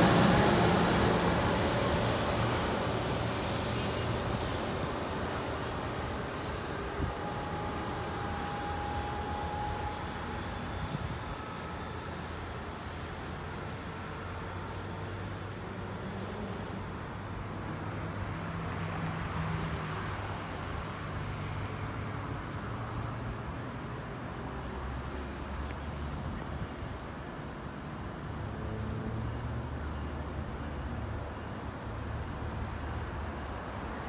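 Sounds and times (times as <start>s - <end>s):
traffic noise: 0.0s - 34.0s
train diesel engine rumble: 0.0s - 34.0s.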